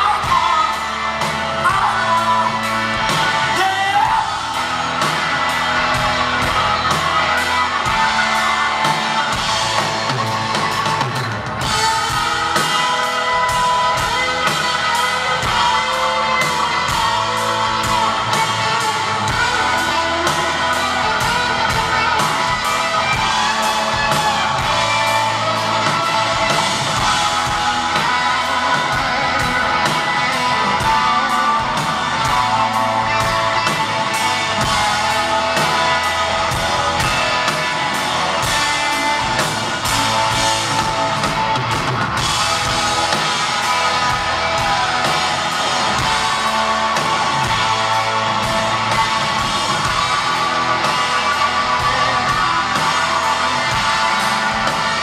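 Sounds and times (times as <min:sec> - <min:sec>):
bass guitar: 0:00.0 - 0:55.0
electric guitar lead: 0:00.0 - 0:55.0
drum beat: 0:01.3 - 0:55.0.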